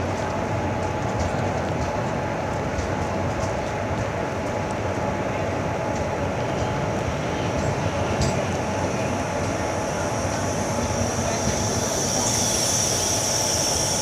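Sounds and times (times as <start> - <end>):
train rolling on rails: 0.0 - 14.0.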